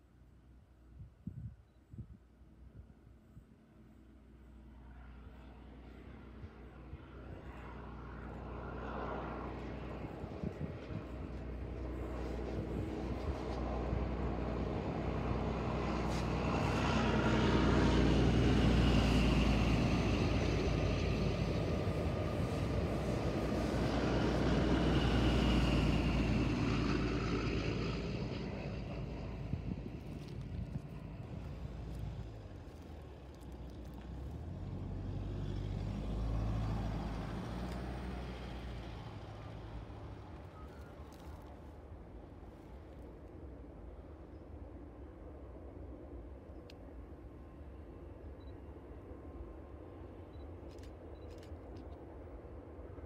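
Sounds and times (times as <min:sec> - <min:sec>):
diesel train engine: 0:03.0 - 0:53.0.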